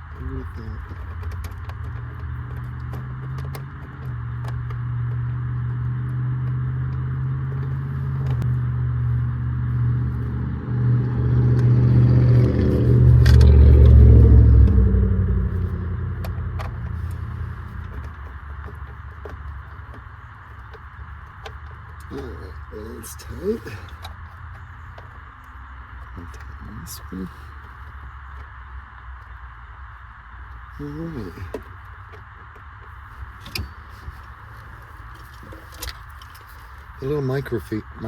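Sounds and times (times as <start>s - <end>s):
vehicle engine rumble: 0.0s - 38.0s.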